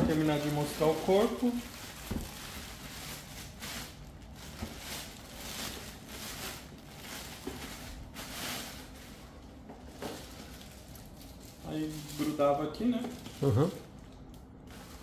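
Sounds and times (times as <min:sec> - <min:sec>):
plastic handling rustle: 0:00.0 - 0:15.0.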